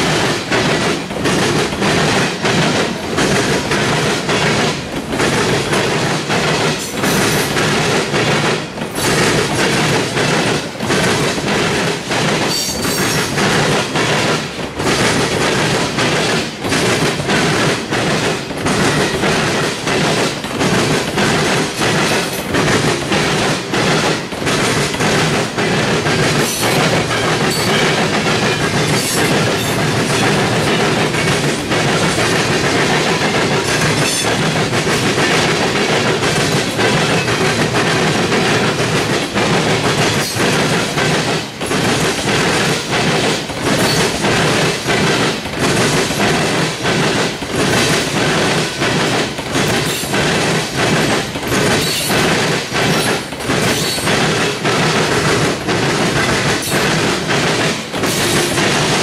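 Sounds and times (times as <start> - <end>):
steel wheels rumbling on rail: 0.0 - 59.0
wheels clacking and knocking: 0.0 - 59.0.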